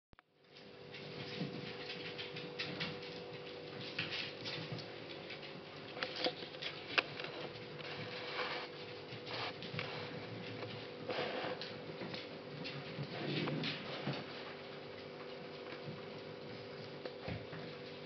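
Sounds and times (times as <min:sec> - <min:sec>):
faint steady hum: 0:00.2 - 0:18.0
dog paws clicking on wooden floor: 0:00.4 - 0:18.0
dogs scuffling: 0:00.5 - 0:18.0.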